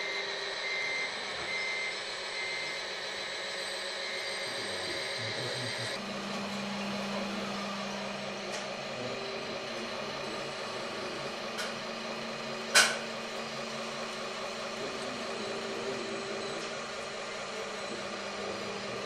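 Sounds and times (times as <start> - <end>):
electric whir of model machines: 0.0 - 19.0.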